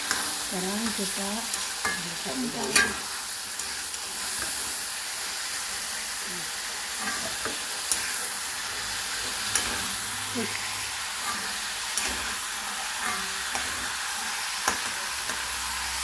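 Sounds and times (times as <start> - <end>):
shrimp sizzling in oil: 0.0 - 16.0.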